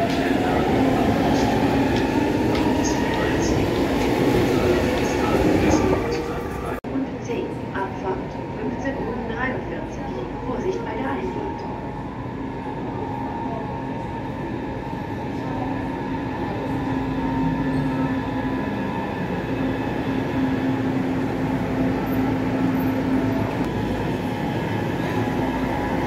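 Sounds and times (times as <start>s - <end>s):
train running on track: 0.0s - 26.0s.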